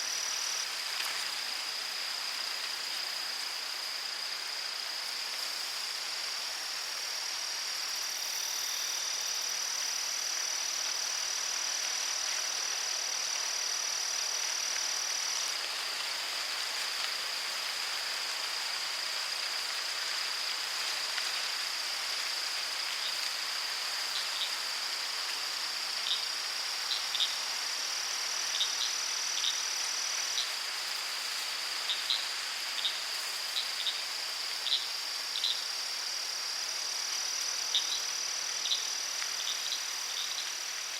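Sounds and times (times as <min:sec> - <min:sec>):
background hiss: 0:00.0 - 0:40.9
crickets trilling: 0:00.0 - 0:40.9.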